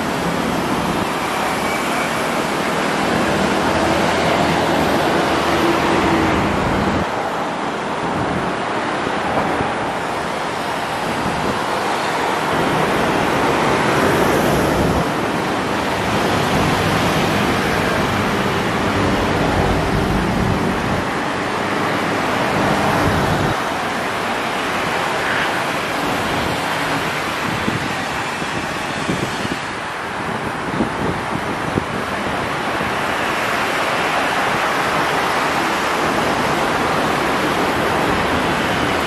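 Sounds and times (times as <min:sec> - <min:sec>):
steady rushing noise: 0:00.0 - 0:39.0.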